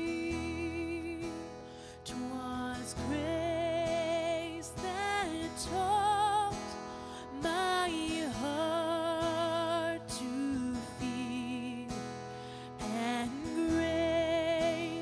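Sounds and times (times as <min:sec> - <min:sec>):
slow song: 0:00.0 - 0:15.0.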